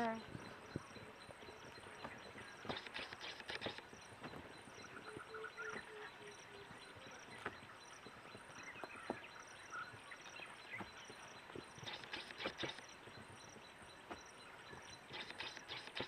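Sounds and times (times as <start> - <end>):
faint distant calls: 0.0 - 16.0
insect chirping: 0.0 - 16.0.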